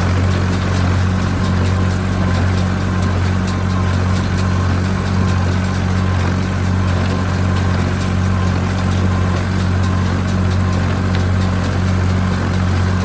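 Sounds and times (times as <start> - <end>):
baler ticking: 0.0 - 13.0
tractor engine humming: 0.0 - 13.0.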